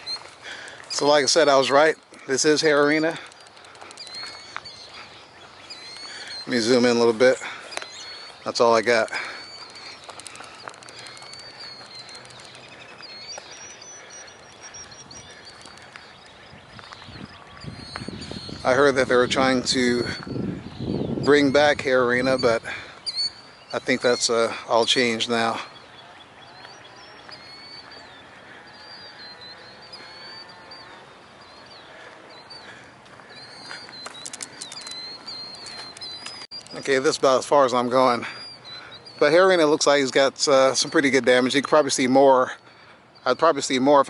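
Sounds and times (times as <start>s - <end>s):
outdoor background noise: 0.0s - 44.0s
small birds calling: 0.0s - 44.0s.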